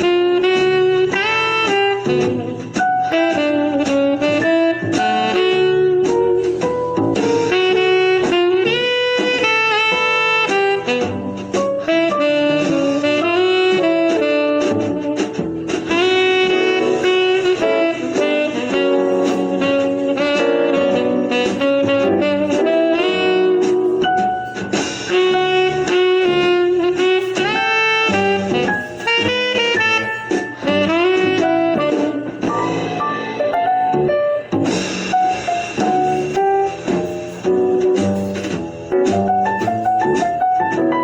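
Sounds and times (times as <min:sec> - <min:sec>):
jazz backing band: 0:00.0 - 0:41.0
saxophone melody: 0:00.0 - 0:41.0.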